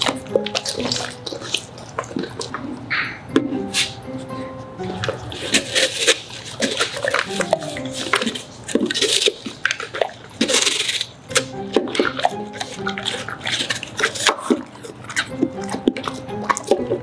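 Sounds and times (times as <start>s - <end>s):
dog chewing wetly: 0.0s - 3.0s, 4.8s - 17.0s.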